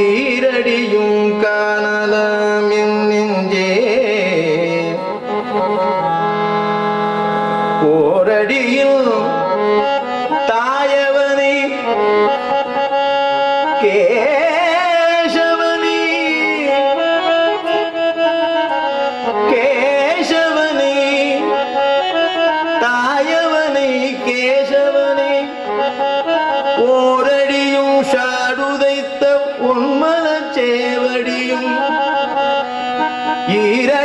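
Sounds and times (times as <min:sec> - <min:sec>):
man singing: 0:00.0 - 0:06.0, 0:07.6 - 0:34.0
harmonium playing: 0:00.0 - 0:34.0.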